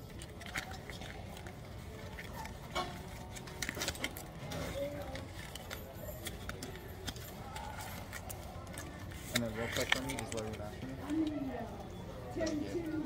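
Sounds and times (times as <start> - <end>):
faint background voices: 0.0 - 13.0.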